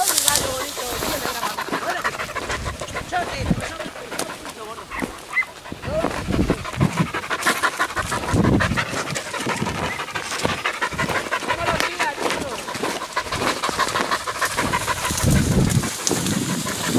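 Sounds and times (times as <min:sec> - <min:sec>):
dog panting heavily: 0:00.0 - 0:16.9.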